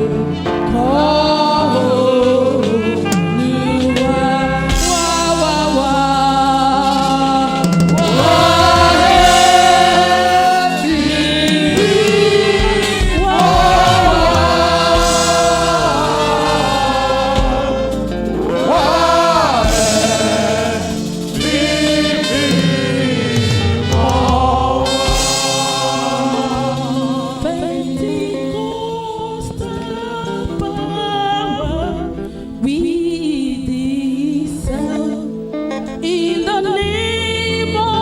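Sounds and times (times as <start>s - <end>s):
choir singing worship music: 0.0s - 36.9s
low keyboard accompaniment: 0.0s - 38.0s.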